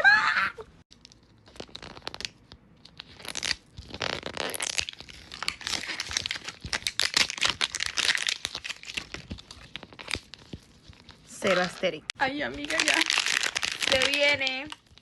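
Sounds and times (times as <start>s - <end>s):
plastic wrapping crinkling: 0.9s - 15.0s.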